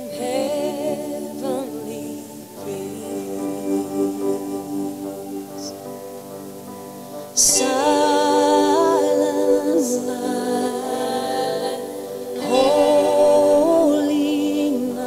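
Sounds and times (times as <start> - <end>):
gliding singing melody line: 0.0 - 15.0
slow music with held chords: 0.0 - 15.0.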